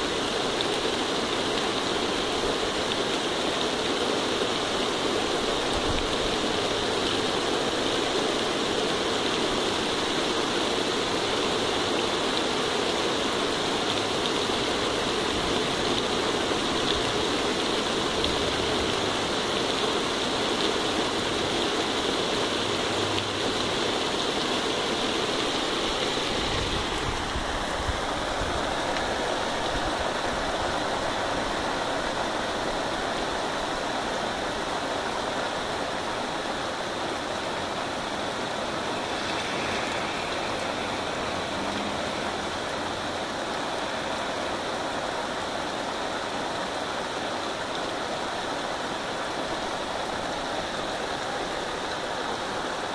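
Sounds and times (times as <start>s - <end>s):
heavy rain on grass: 0.0s - 52.9s.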